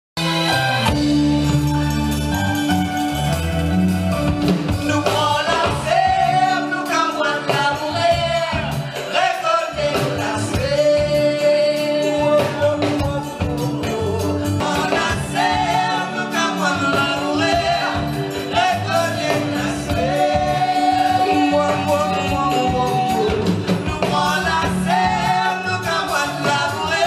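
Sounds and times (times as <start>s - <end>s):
band with percussion beat: 0.2s - 27.0s
person singing into a microphone: 4.8s - 27.0s.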